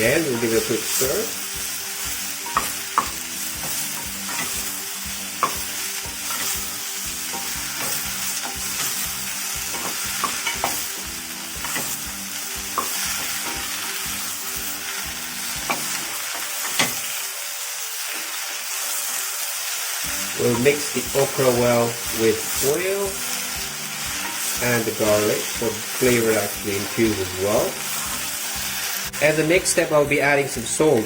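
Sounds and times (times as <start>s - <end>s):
vegetables sizzling in hot oil: 0.0s - 31.0s.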